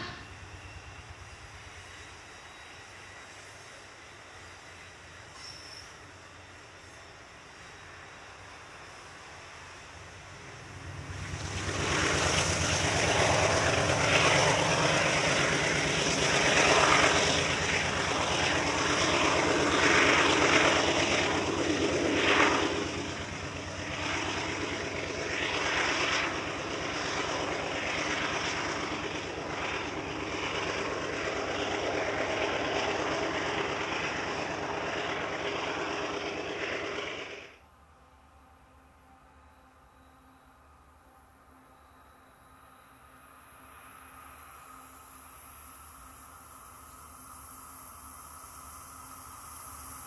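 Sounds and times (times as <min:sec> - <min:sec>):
diesel locomotive engine drone: 0:00.0 - 0:50.0.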